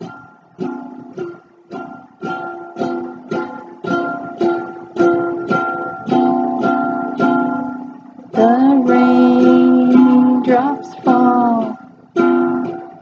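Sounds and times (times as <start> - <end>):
ukulele strumming: 0.0 - 13.0.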